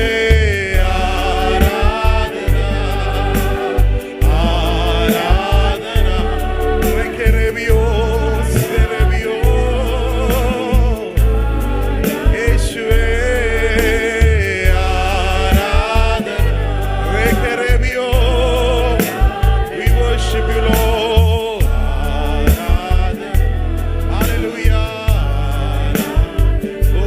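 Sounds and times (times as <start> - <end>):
pulsing bass: 0.0 - 27.0
steady percussion: 0.0 - 27.0
worship song with band: 0.0 - 27.0.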